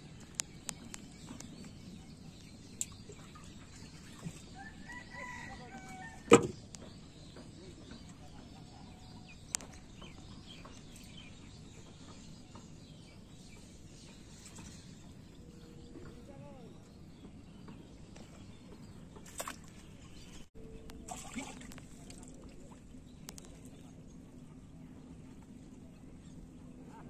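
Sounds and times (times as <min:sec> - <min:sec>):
faint outdoor background: 0:00.0 - 0:27.0.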